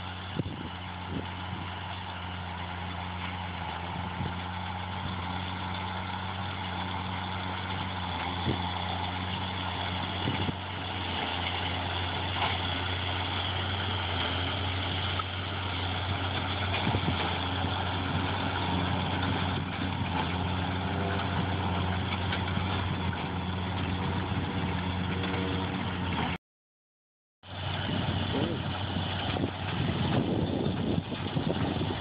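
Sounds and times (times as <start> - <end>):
tractor diesel engine running: 0.0 - 26.4, 27.4 - 32.0.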